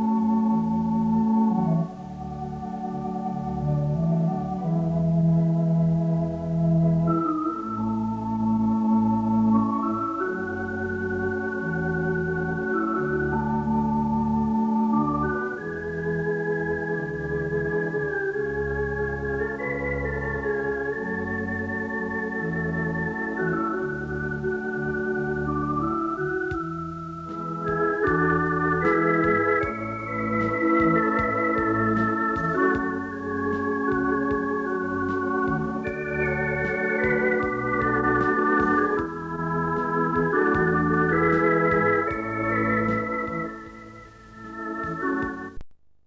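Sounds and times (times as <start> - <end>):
organ music: 0.0 - 45.6.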